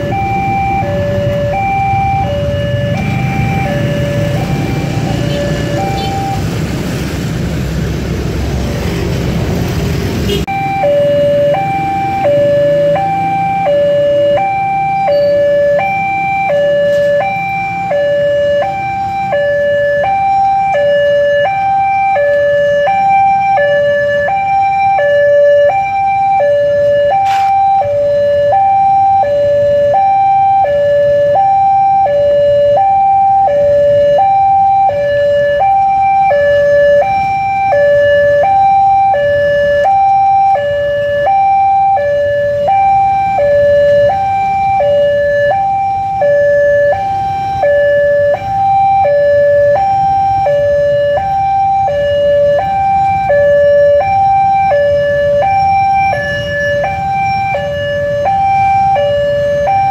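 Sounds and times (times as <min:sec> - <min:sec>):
level crossing two-tone alarm: 0:00.0 - 0:06.5, 0:10.5 - 0:59.9.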